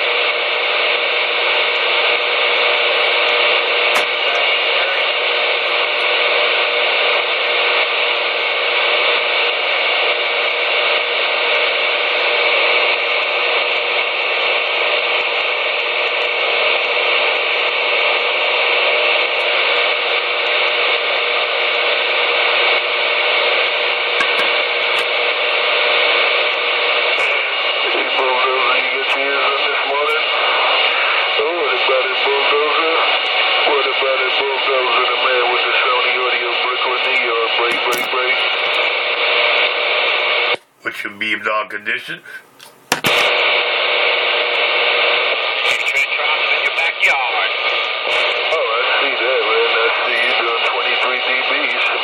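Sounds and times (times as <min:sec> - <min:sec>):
radio static hiss: 0:00.0 - 0:52.0.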